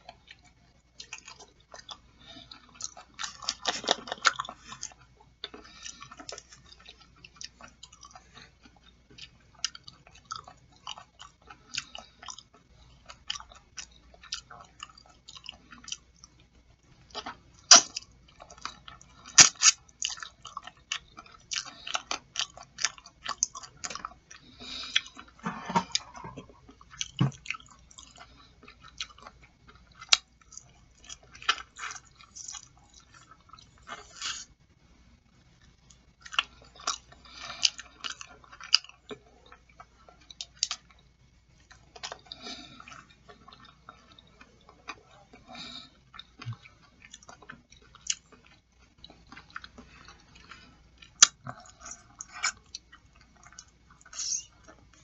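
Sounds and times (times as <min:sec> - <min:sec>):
chewing and wet mouth sounds: 0:00.0 - 0:55.0.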